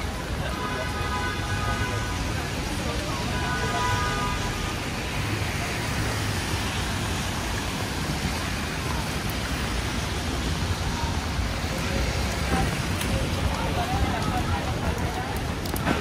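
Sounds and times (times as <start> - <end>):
heavy rain falling: 0.0 - 16.0
street traffic rumbling: 0.0 - 16.0.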